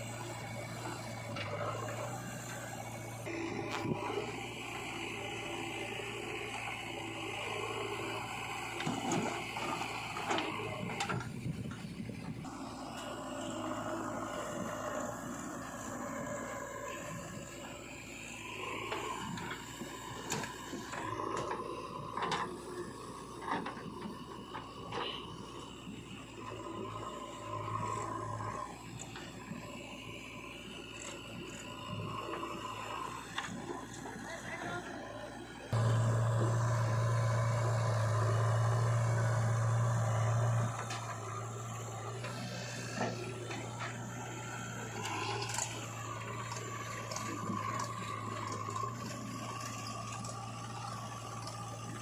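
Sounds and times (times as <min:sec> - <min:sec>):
machinery running: 0:00.0 - 0:35.0, 0:35.7 - 0:52.0
engine humming: 0:00.0 - 0:52.0.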